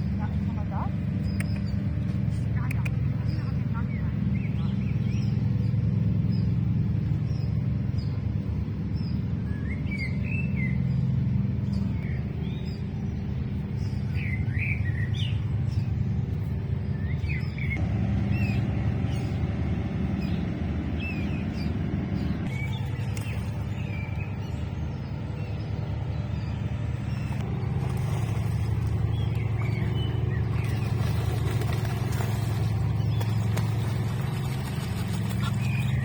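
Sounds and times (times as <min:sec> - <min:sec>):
low motor rumble: 0:00.0 - 0:36.0
small birds chirping: 0:00.0 - 0:36.0.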